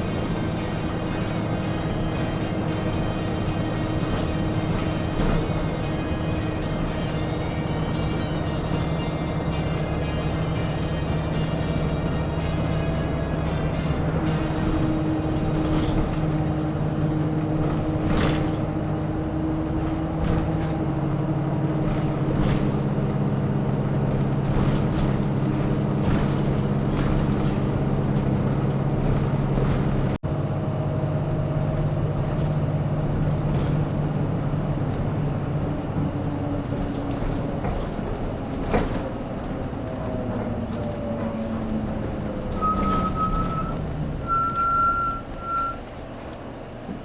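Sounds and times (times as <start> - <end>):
bus diesel engine humming: 0.0 - 47.0
road noise: 0.0 - 47.0.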